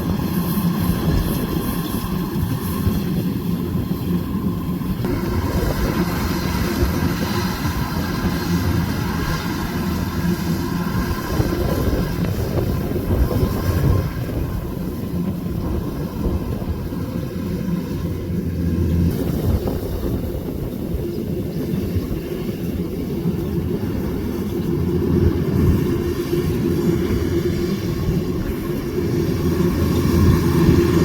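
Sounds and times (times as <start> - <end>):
combine harvester engine drone: 0.0 - 31.0.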